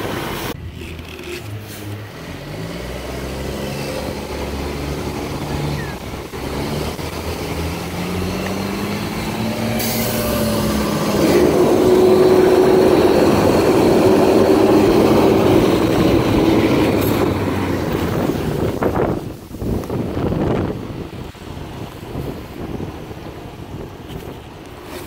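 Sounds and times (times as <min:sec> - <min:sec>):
garbage truck engine accelerating: 0:00.0 - 0:21.2
road noise: 0:00.0 - 0:25.0.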